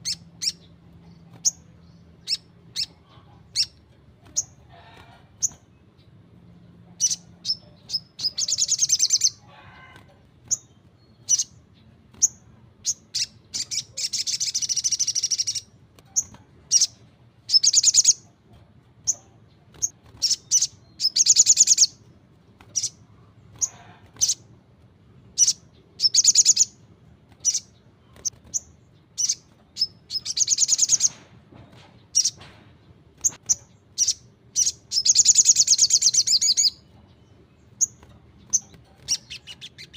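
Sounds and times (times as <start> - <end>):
bird chirping and trilling: 0.0 - 6.2, 6.9 - 9.6, 10.4 - 18.3, 19.0 - 22.0, 22.6 - 24.5, 25.3 - 26.8, 27.4 - 31.2, 32.1 - 32.4, 33.2 - 39.9.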